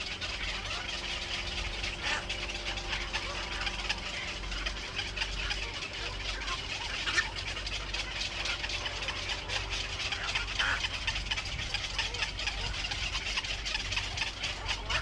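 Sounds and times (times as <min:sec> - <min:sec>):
low hum: 0:00.0 - 0:15.0
small birds chirping: 0:00.0 - 0:15.0.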